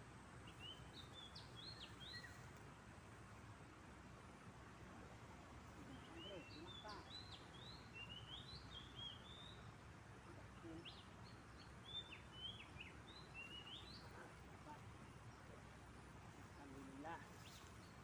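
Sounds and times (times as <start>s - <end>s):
faint birdsong chirps: 0.0s - 18.0s
low background noise: 0.0s - 18.0s.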